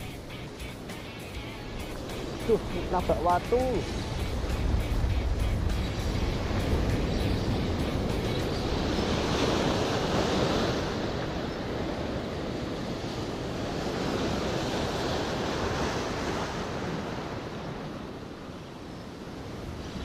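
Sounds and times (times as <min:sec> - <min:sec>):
surf breaking over rocks: 0:01.8 - 0:18.1.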